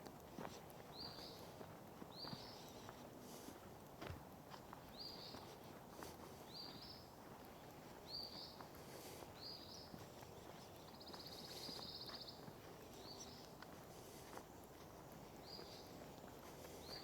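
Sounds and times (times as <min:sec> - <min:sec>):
footsteps on sandy trail: 0:00.0 - 0:17.0.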